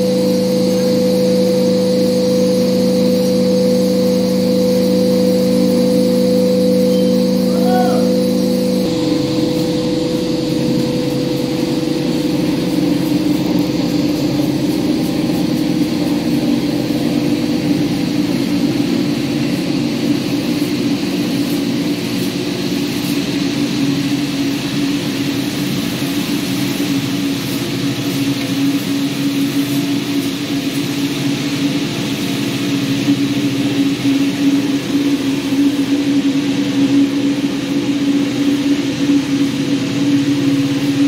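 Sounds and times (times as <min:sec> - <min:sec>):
pressure washer motor hum: 0:00.0 - 0:41.0.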